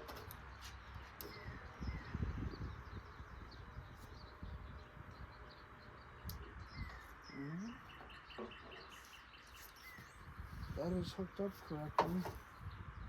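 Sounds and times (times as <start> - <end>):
outdoor background noise: 0.0 - 13.0
small birds chirping: 0.0 - 13.0.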